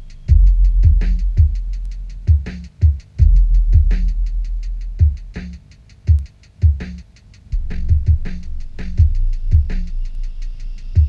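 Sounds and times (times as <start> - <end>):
deep booming kick drum: 0.0 - 5.5, 7.5 - 11.0
quick ticking beat: 0.0 - 11.0.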